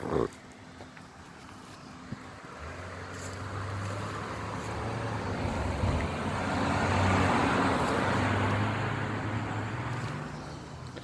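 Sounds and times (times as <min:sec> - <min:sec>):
road and traffic noise: 0:00.0 - 0:11.0
vehicle engine humming: 0:00.0 - 0:11.0.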